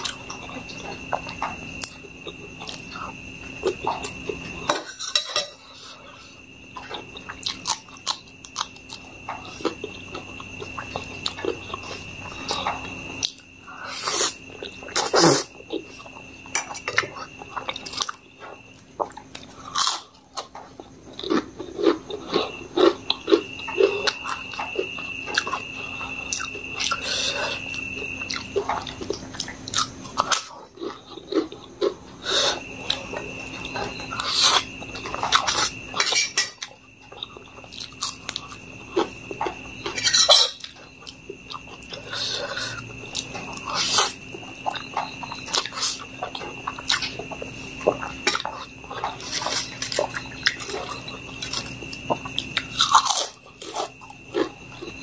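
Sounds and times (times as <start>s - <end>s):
chewing and wet mouth sounds: 6.7s - 55.0s.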